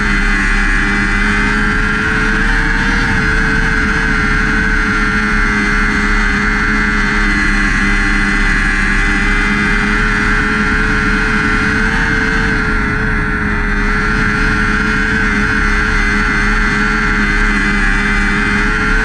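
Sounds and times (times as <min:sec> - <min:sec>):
motorcycle engine at high revs: 0:00.0 - 0:19.0
wind and road noise: 0:00.0 - 0:19.0.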